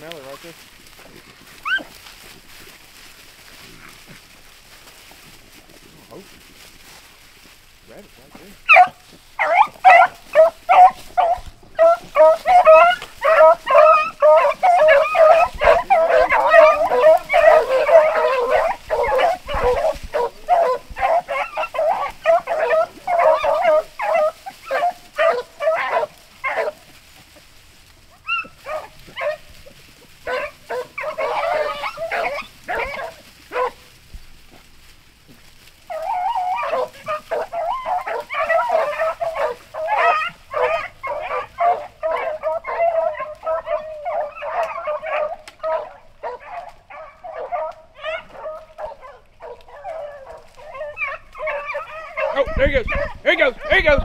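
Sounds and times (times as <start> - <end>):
dogs baying: 1.4 - 2.3, 7.9 - 27.4, 28.0 - 34.0, 35.8 - 54.0.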